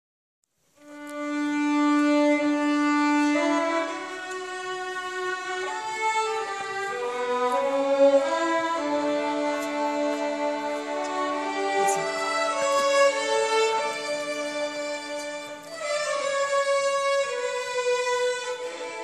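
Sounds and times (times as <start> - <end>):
violins playing a hymn: 0.8 - 19.0.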